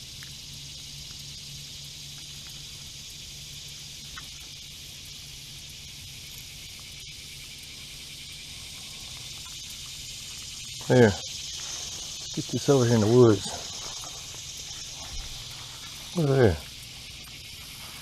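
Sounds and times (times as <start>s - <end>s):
insect chorus drone: 0.0s - 18.0s.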